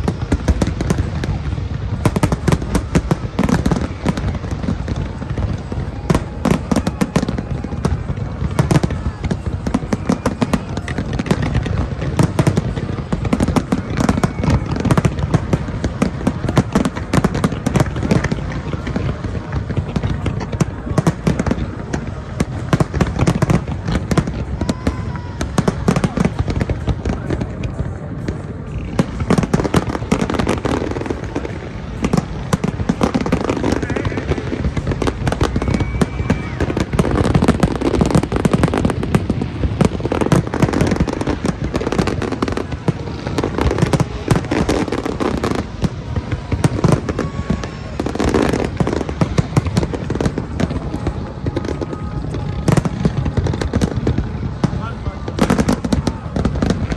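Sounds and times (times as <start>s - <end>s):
fireworks bursts and crackling: 0.0s - 56.9s.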